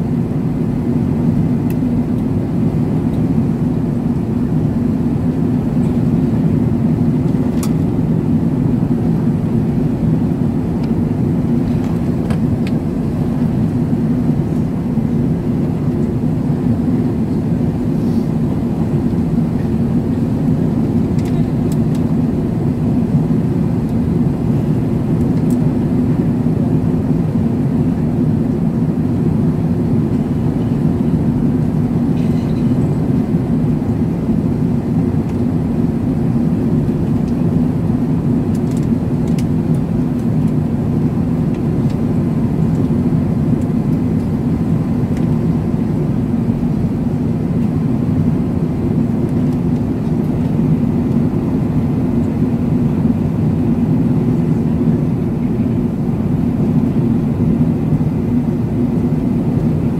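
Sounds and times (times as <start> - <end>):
airplane cabin rumble: 0.0 - 59.9
faint steady whine: 0.0 - 59.9.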